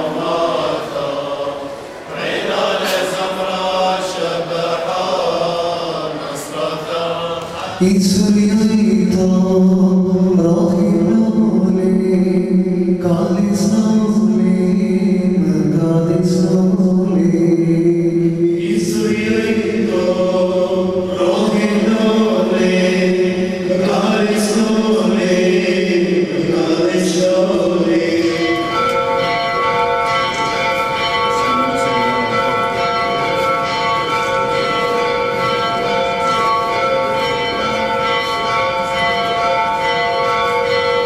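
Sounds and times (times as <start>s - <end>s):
men chanting a hymn over loudspeaker: 0.0s - 34.8s.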